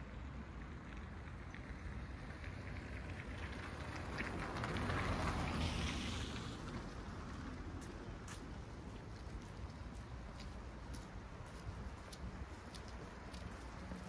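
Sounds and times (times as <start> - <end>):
low city hum: 0.0 - 14.0
vehicle passing: 0.0 - 14.0.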